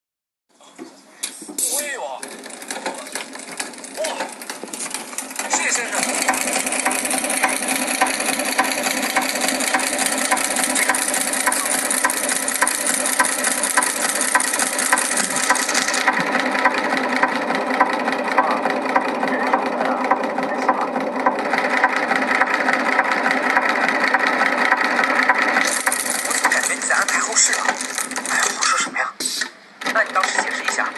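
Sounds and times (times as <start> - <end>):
machinery clattering: 1.6 - 28.8, 29.8 - 30.9.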